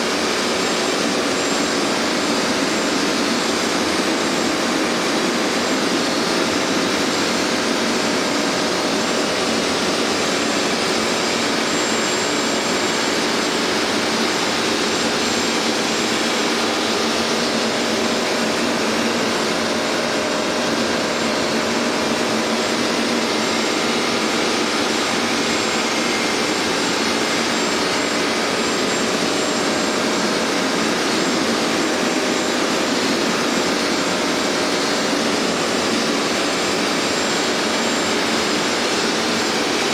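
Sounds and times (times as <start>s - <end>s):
carpet cleaner suction motor: 0.0s - 39.9s.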